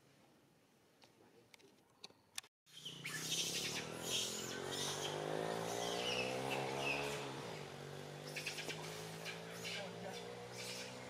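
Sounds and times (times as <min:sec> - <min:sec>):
birds chirping: 0:01.9 - 0:11.0.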